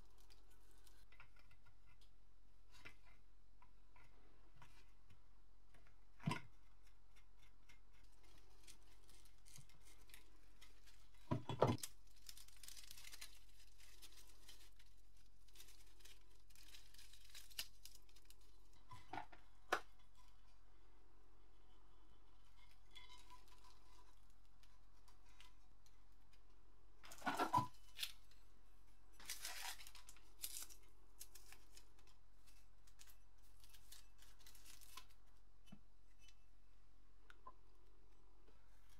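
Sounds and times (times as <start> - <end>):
crackling and scraping of brittle sheets: 0.0 - 20.7, 21.5 - 36.5.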